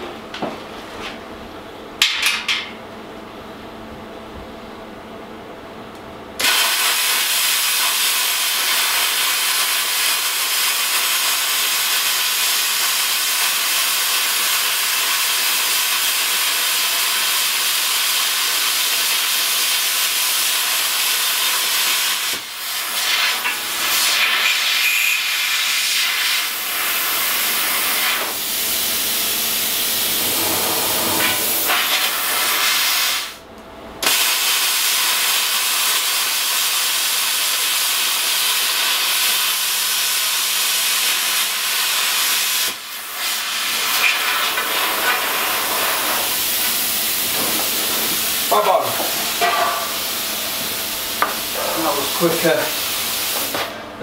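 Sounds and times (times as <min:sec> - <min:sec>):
plasma cutter hissing: 0:06.4 - 0:33.4, 0:34.0 - 0:53.6.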